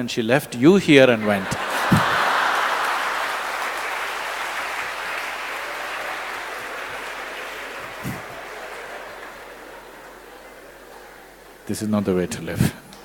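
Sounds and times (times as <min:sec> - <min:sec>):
audience applauding: 0:01.1 - 0:11.7.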